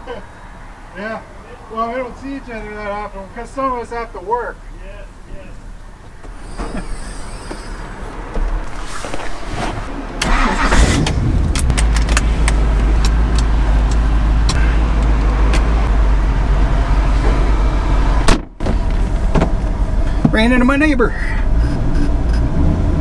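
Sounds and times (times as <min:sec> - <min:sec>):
car engine starting and rumbling: 0:00.0 - 0:23.0.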